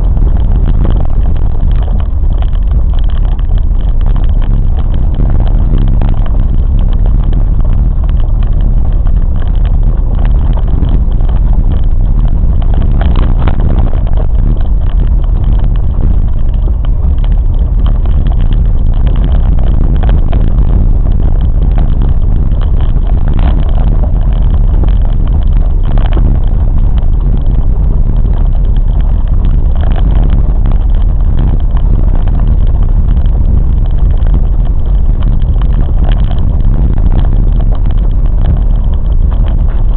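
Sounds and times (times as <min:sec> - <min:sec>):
clacks and knocks: 0:00.0 - 0:39.9
train rumbling: 0:00.0 - 0:39.9.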